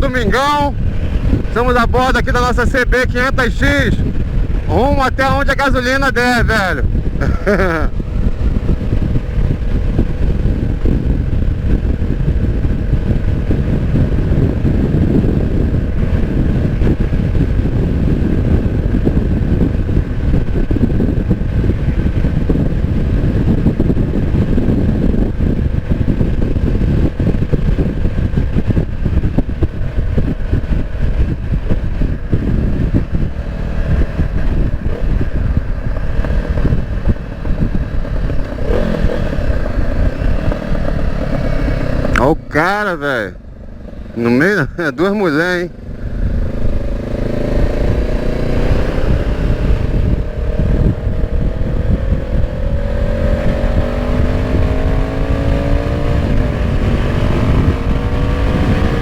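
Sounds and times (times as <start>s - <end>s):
motorcycle engine rumbling: 0.0s - 59.0s.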